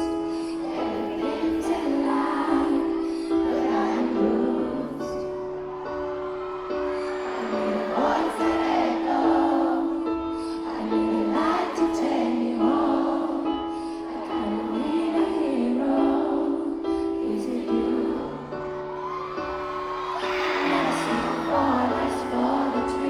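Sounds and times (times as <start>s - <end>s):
woman singing: 0.0s - 5.4s, 7.3s - 18.9s, 20.2s - 23.0s.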